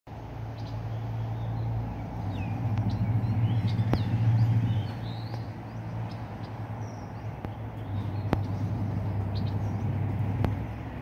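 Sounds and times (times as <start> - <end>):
small birds chirping: 0.4 - 11.0
low fluttering hum: 0.6 - 11.0.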